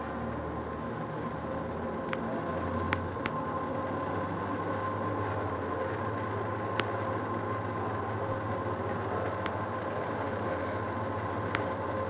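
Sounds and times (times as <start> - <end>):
cable mechanical hum: 0.0 - 12.0
faint steady whine: 0.0 - 12.0.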